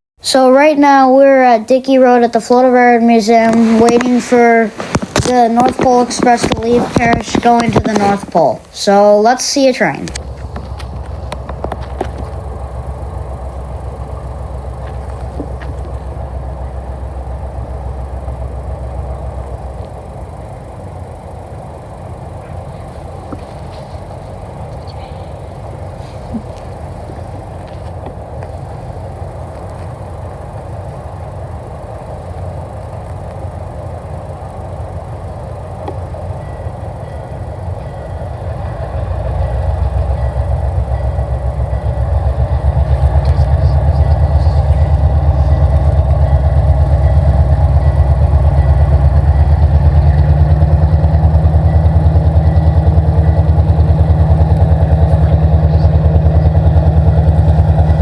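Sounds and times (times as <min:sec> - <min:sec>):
train locomotive engine rumble: 0:00.2 - 0:58.0.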